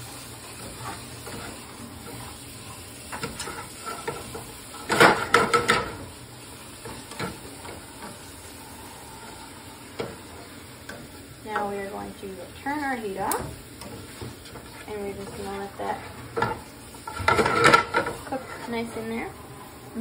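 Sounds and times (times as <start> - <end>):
spatula scraping and knocking pan: 0.0 - 8.4, 9.3 - 19.2
greens sizzling in skillet: 0.0 - 20.0.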